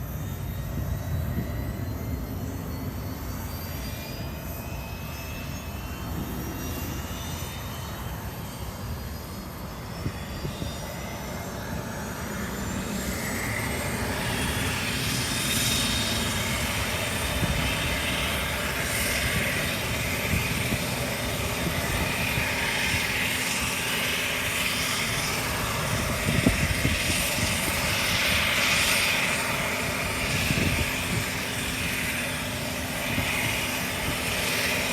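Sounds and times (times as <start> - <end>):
turboprop engine whine rising: 0.0 - 34.9.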